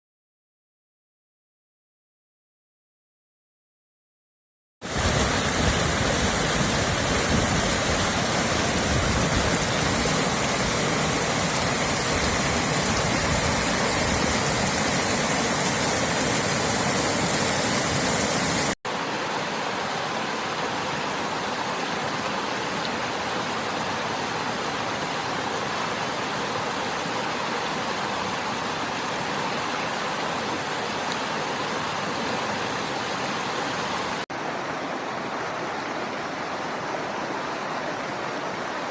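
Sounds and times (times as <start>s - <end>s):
river and waterfall rushing: 4.8s - 38.9s.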